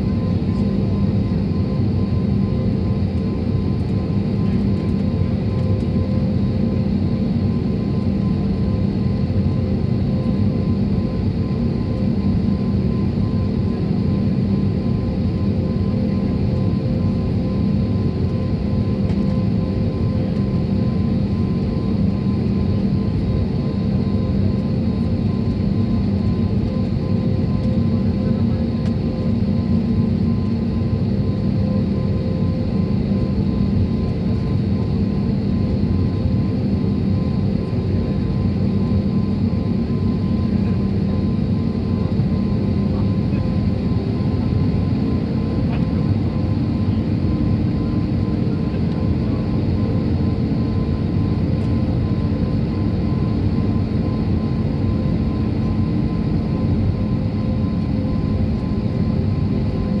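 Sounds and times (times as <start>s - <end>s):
jet engine cabin drone: 0.0s - 60.0s.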